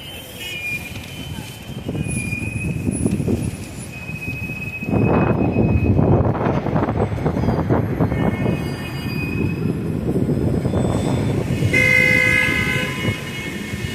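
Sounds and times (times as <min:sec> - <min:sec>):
city street traffic rumble: 0:00.0 - 0:13.9.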